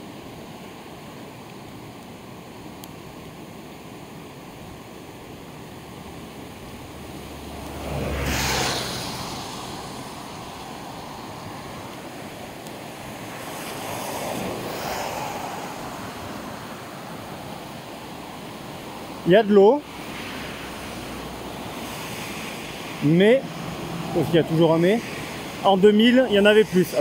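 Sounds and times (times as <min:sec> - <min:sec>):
floodwater rushing: 0:00.0 - 0:27.0.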